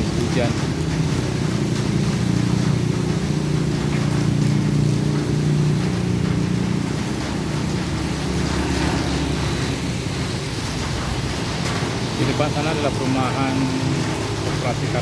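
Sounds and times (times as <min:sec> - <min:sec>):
rain: 0:00.0 - 0:15.0
vehicle engine humming: 0:00.0 - 0:15.0
wet road noise: 0:00.0 - 0:15.0.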